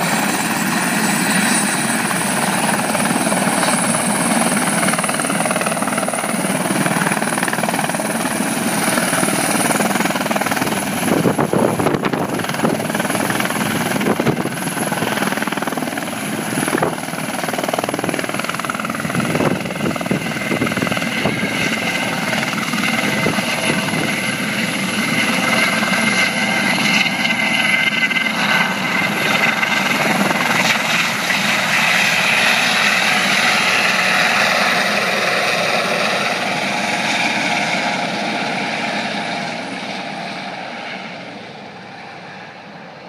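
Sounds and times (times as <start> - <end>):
helicopter turbine and rotor noise: 0.0 - 43.0.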